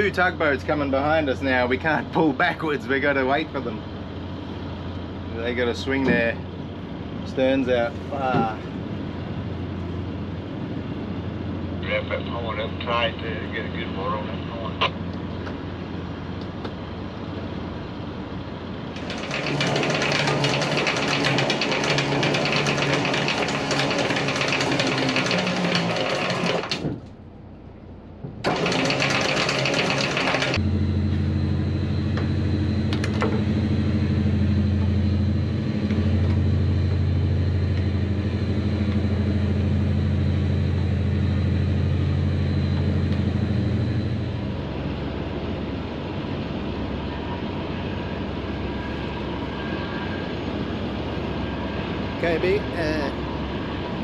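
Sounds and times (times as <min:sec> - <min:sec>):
boat engine running: 0:00.0 - 0:27.1, 0:28.3 - 0:54.0.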